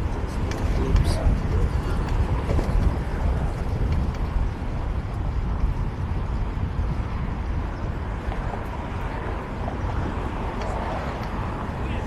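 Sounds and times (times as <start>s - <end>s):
faint road noise: 0.0s - 12.0s
wind buffeting microphone: 0.0s - 12.0s.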